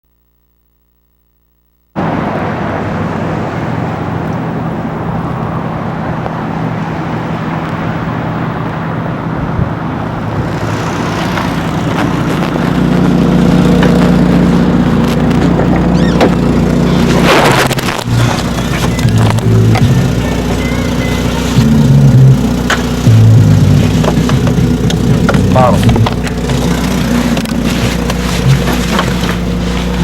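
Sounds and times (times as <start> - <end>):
car engine drone: 2.0 - 30.0.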